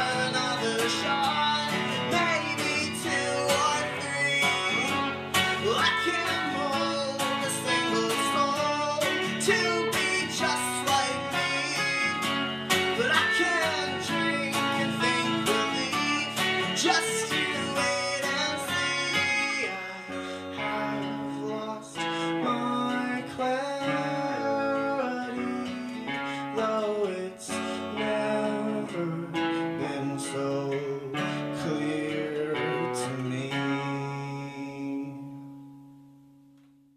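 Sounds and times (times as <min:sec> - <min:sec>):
acoustic guitar strumming chords: 0:00.0 - 0:36.9
electric guitar playing lines: 0:00.0 - 0:36.9.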